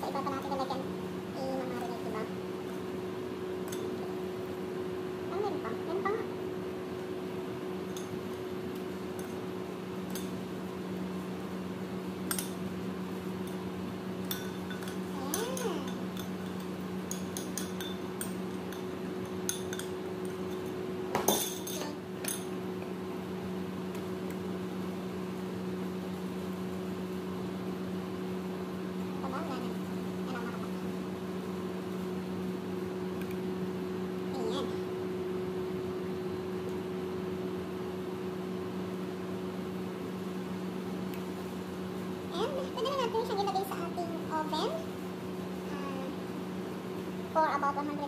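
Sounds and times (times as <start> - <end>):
electrical hum: 0.0 - 48.0.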